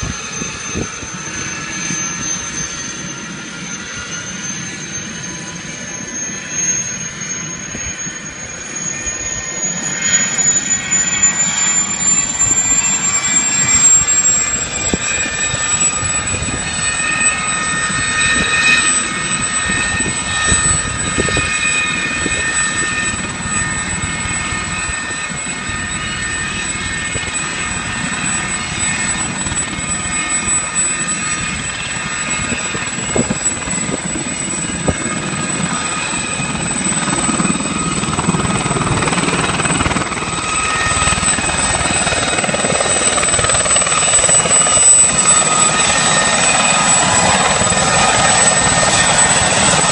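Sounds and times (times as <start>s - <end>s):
helicopter rotor noise: 0.0s - 49.9s
helicopter turbine whine: 0.0s - 49.9s.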